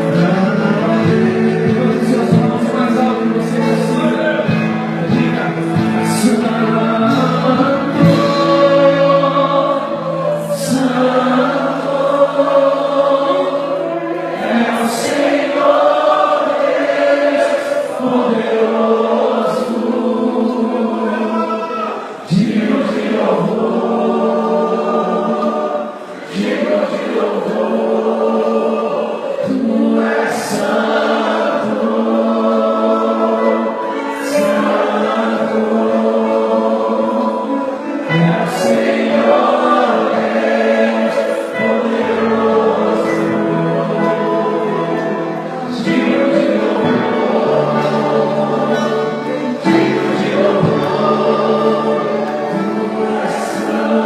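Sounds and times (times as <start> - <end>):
instrumental accompaniment with bass: 0.0 - 21.3, 22.2 - 54.0
group singing gospel music: 0.0 - 54.0.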